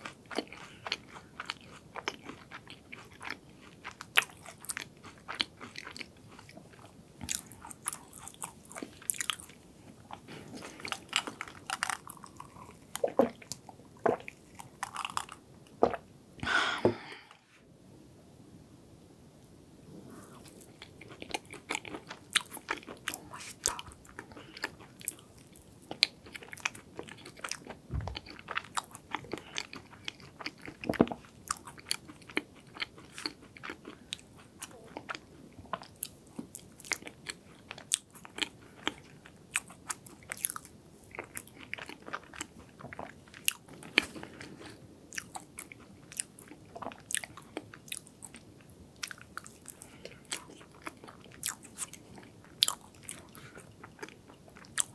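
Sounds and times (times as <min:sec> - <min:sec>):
chewing with crunches: 0:00.0 - 0:15.4, 0:20.2 - 0:54.9.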